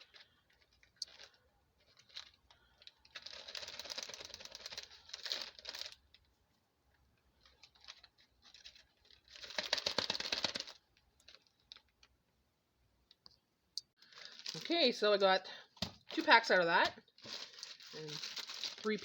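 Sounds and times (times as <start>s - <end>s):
plastic baggies crinkling: 0.0s - 6.3s, 7.3s - 12.2s, 14.0s - 19.0s.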